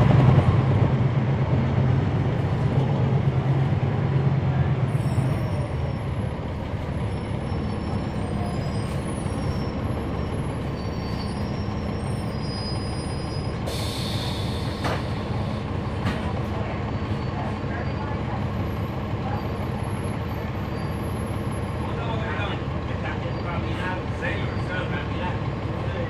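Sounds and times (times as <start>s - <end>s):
bus diesel engine droning: 0.0s - 26.0s.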